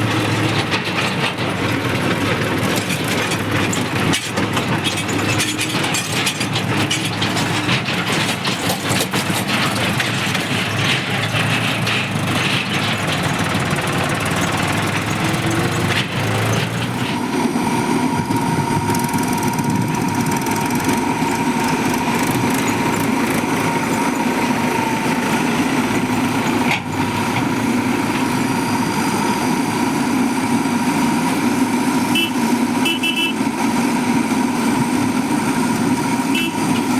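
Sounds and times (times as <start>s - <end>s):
constant whine: 0.0s - 36.9s
diesel engine running: 0.0s - 36.9s.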